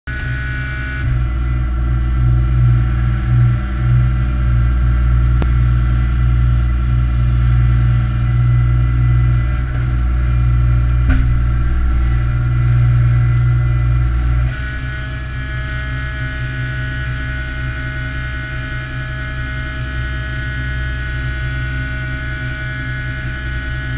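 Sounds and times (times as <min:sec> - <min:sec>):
boat engine and hoisting gear humming: 0:00.1 - 0:23.9.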